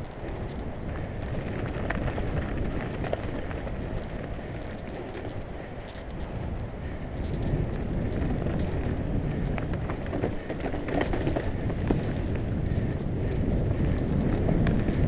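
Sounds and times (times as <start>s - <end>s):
bike clicks and rattles: 0.0s - 15.0s
tyres rumbling on dirt: 0.0s - 15.0s
wind buffeting microphone: 0.0s - 15.0s.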